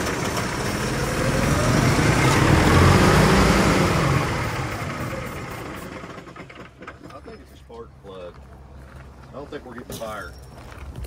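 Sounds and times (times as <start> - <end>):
diesel truck engine running: 0.0 - 9.6.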